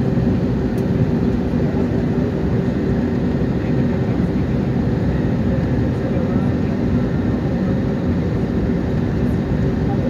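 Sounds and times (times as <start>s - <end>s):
airliner engine and air roar: 0.0s - 10.0s.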